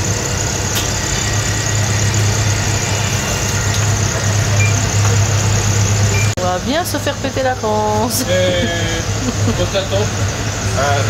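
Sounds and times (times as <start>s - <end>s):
train carriage rumbling hum: 0.0s - 11.0s.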